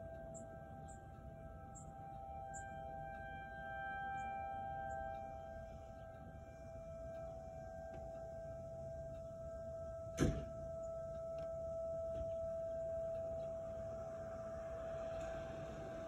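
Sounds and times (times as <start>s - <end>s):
warning siren steady tone: 0.0s - 16.0s.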